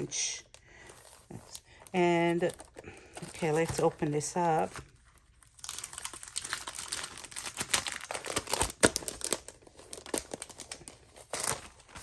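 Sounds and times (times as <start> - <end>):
packaging crinkling: 0.1 - 12.0.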